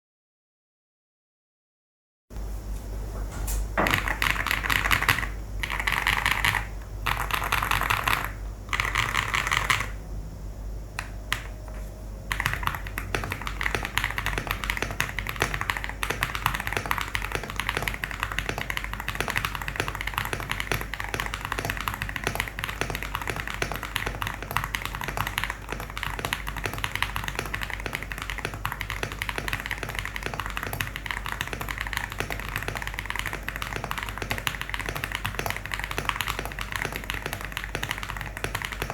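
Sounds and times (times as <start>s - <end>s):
mechanical keyboard typing: 3.8s - 10.0s, 12.3s - 38.9s.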